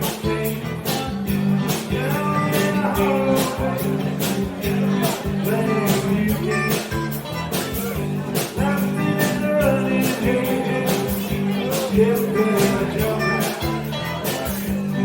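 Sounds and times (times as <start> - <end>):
person singing: 0.0 - 7.2, 7.8 - 15.0
guitar: 0.0 - 15.0
steady drum beat: 0.0 - 15.0.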